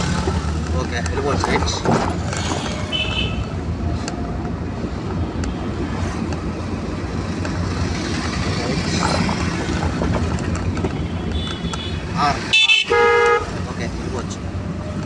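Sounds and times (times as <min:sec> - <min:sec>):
car engine hum: 0:00.0 - 0:15.0
road rumble: 0:00.0 - 0:15.0.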